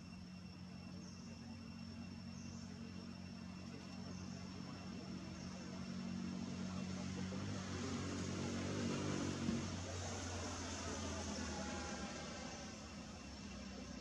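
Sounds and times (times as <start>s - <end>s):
high-pitched insect drone: 0.0s - 14.0s
low motor drone: 0.0s - 14.0s.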